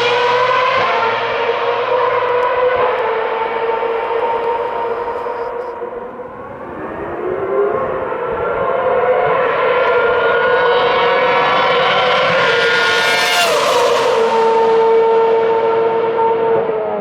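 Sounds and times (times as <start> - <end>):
racing car engine at high revs: 0.0 - 16.9.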